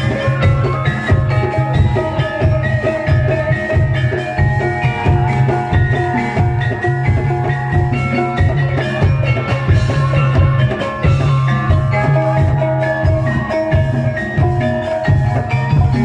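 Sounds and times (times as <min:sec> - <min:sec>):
ringing metallophone notes: 0:00.0 - 0:16.0
steady drum beat: 0:00.0 - 0:16.0.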